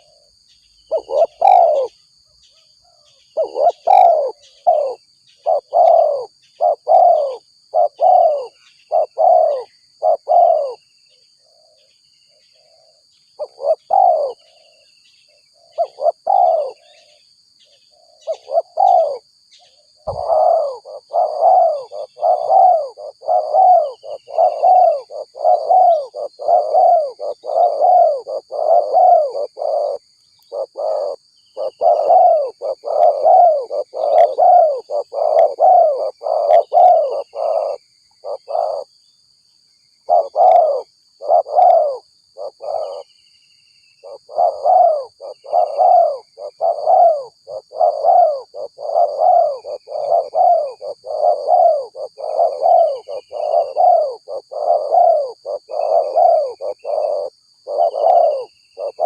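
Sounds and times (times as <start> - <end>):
dove cooing: 0.0 - 2.0, 2.8 - 14.8, 15.5 - 38.9, 40.0 - 43.1, 44.0 - 59.0.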